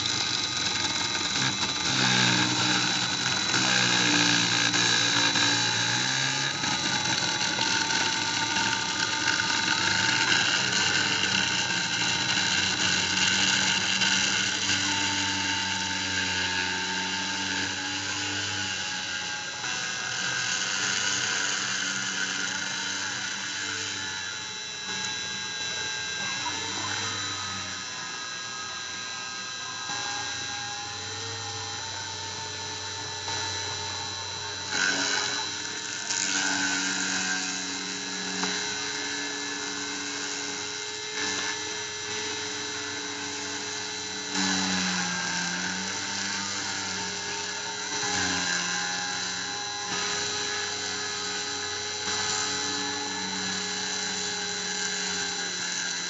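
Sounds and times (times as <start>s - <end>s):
motors humming: 0.0s - 56.0s
rotary tool high whine: 0.0s - 56.0s.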